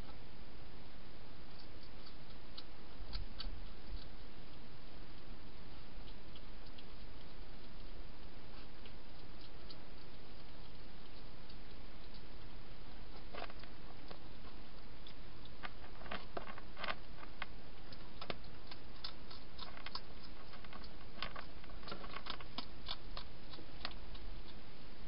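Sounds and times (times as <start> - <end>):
hedgehog crunching food: 1.5 - 24.7.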